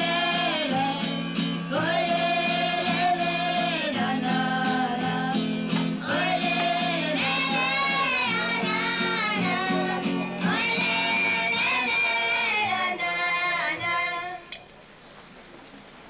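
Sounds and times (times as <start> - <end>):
folk dance music with singing: 0.0 - 14.6.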